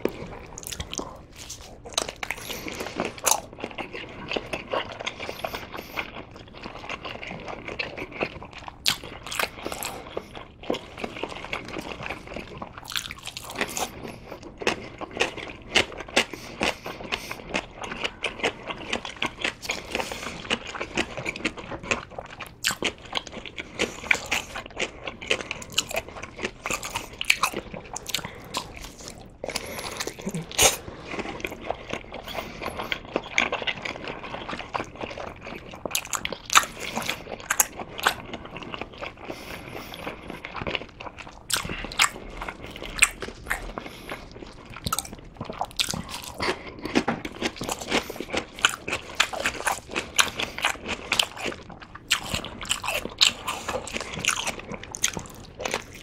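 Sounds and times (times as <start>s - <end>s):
biting and chewing: 0.0s - 56.0s.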